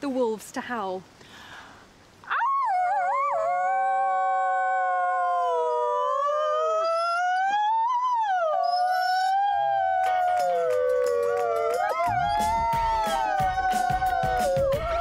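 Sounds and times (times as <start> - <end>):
wolves howling: 2.3 - 15.0.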